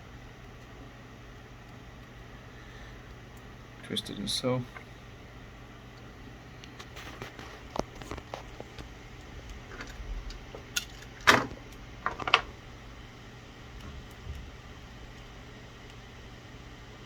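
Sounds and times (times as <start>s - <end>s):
small clicks and rustles of wires: 0.0s - 17.0s.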